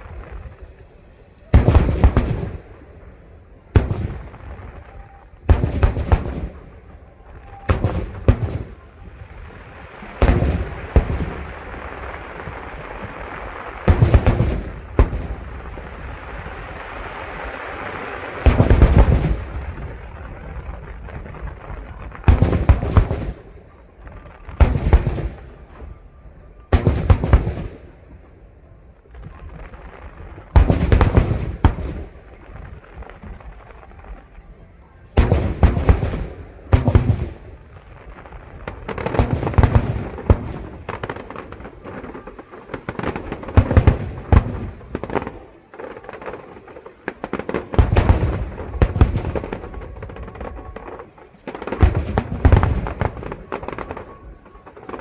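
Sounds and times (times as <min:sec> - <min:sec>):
fireworks booming: 0:00.0 - 0:55.0
fireworks crackle: 0:00.0 - 0:55.0.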